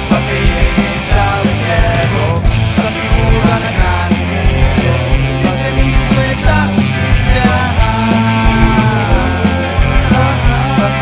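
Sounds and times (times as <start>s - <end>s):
drums beating: 0.0s - 11.0s
rock band playing: 0.0s - 11.0s.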